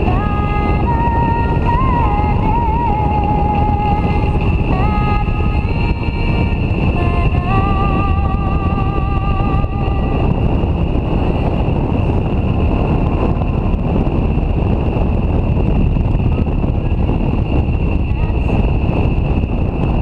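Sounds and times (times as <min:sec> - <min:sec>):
high whine rising in pitch: 0:00.0 - 0:20.0
motorcycle engine rumble: 0:00.0 - 0:20.0
wind rushing past microphone: 0:00.0 - 0:20.0.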